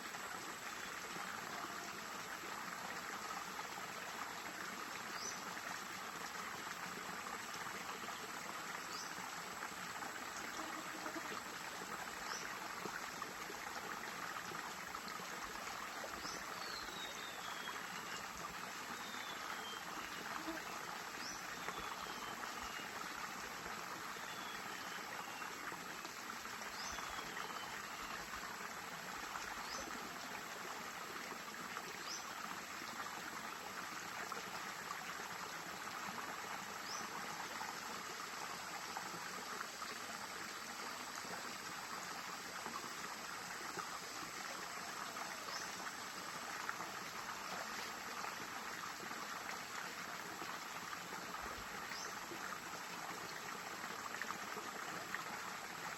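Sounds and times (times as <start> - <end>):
stream flowing: 0.0 - 55.9.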